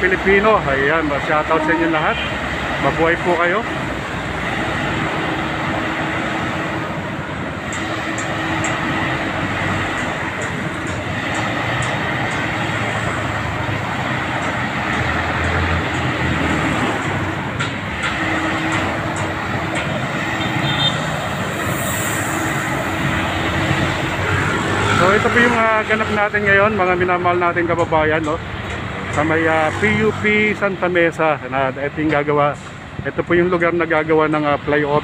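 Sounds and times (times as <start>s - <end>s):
diesel train rumbling past: 0.0s - 35.0s
road traffic: 0.0s - 35.0s.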